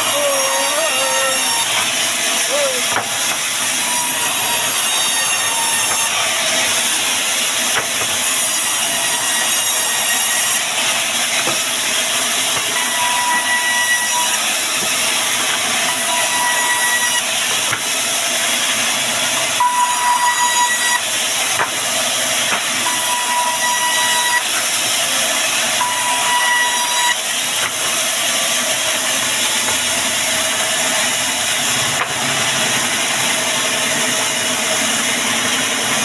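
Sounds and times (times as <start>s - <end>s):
high saw whine: 0.0s - 7.7s, 12.0s - 36.0s
band saw cutting wood: 0.0s - 36.0s.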